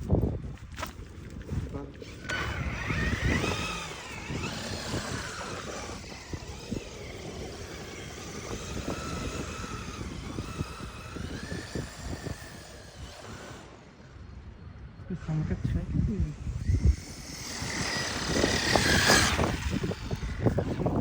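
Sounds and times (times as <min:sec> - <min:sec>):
rc car motor revving: 0:01.4 - 0:21.0.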